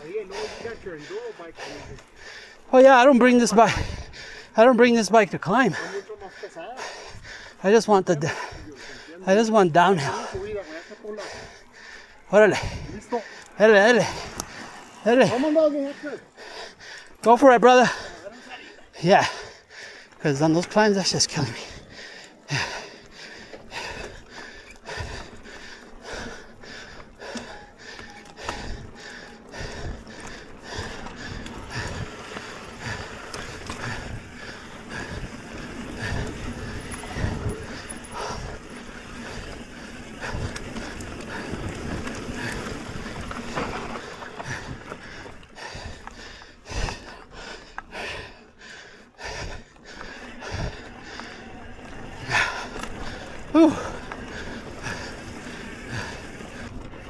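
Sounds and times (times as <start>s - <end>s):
bike knocking and rattling: 0.0s - 57.0s
bike tyres on dirt trail: 0.0s - 57.0s
person breathing hard: 0.0s - 57.0s.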